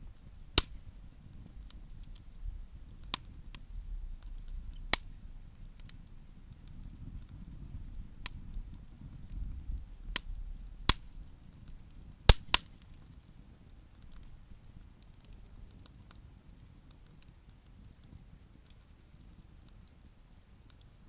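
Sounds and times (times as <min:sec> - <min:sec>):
low fire rumble: 0:00.0 - 0:21.0
wood fire crackling pops: 0:00.0 - 0:21.0.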